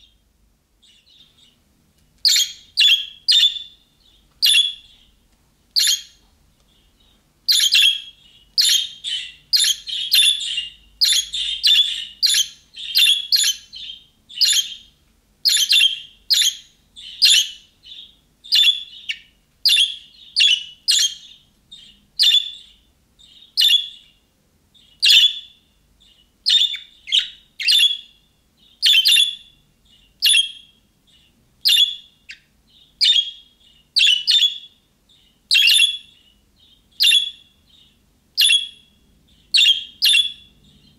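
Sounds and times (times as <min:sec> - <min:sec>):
budgerigar chirping: 0:02.2 - 0:03.8, 0:04.4 - 0:05.0, 0:05.8 - 0:06.2, 0:07.5 - 0:24.2, 0:24.8 - 0:40.9.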